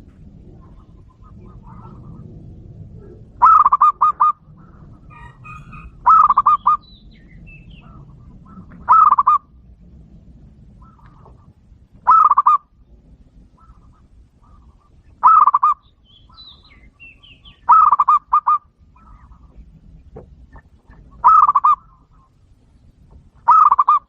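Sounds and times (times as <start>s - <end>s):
dove cooing: 0.0s - 9.8s, 10.5s - 22.5s, 23.4s - 24.0s.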